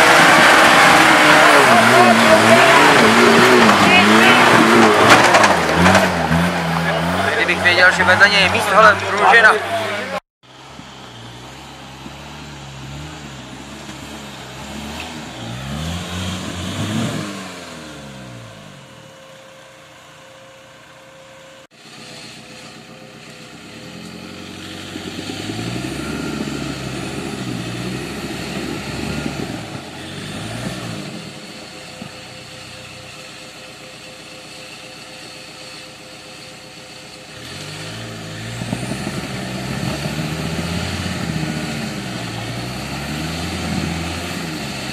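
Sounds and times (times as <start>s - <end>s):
engine revving: 0.0s - 19.0s, 21.9s - 33.6s, 37.0s - 44.9s.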